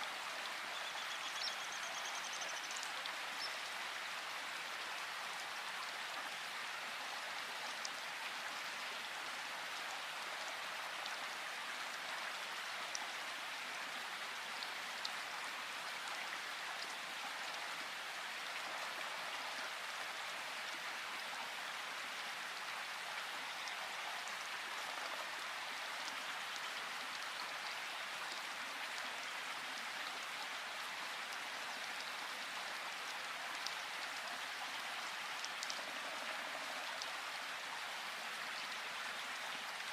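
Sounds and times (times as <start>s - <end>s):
light water drips: 0.0s - 39.9s
rain falling in a forest: 0.0s - 39.9s.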